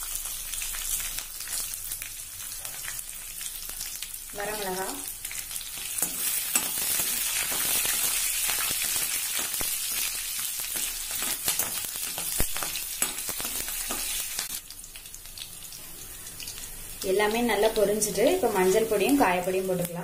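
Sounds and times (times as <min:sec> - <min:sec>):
spices frying in hot oil: 0:00.0 - 0:20.0.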